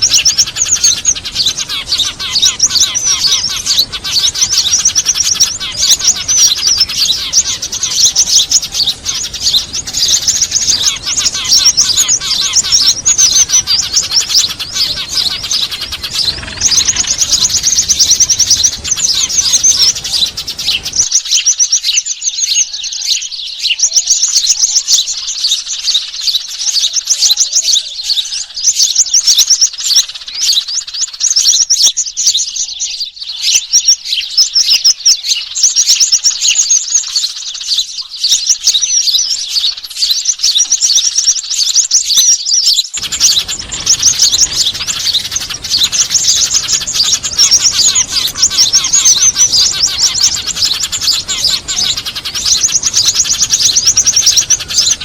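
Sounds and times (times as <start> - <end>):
small birds chattering: 0.0 - 55.0.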